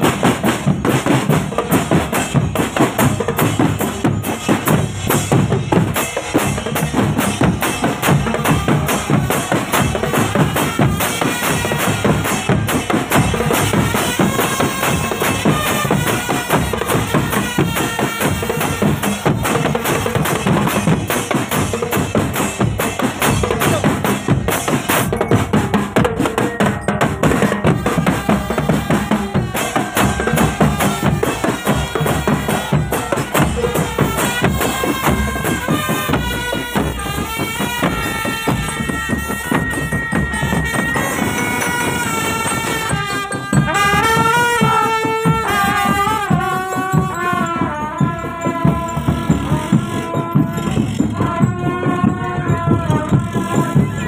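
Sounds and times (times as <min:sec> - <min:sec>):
marching drum beat: 0:00.0 - 0:54.0.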